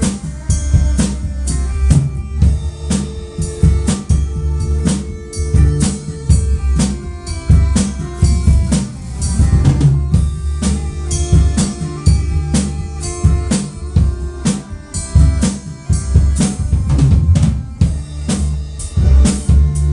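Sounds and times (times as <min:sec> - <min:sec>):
drum kit playing steady beat: 0:00.0 - 0:19.9
sustained pitched instruments: 0:00.0 - 0:19.9.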